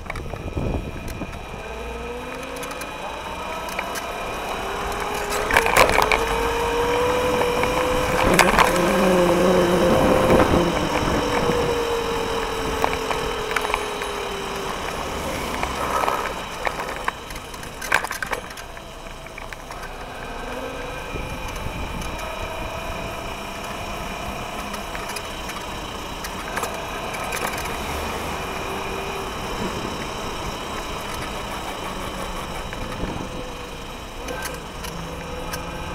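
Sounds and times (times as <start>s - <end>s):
electric scooter motor whining: 0.0s - 35.9s
scooter rattling: 0.0s - 35.9s.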